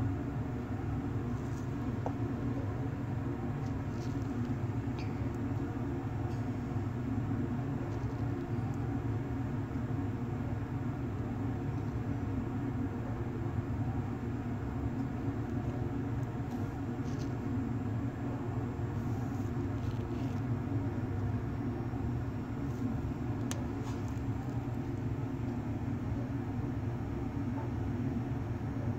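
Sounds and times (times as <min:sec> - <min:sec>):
low mechanical hum: 0:00.0 - 0:28.9.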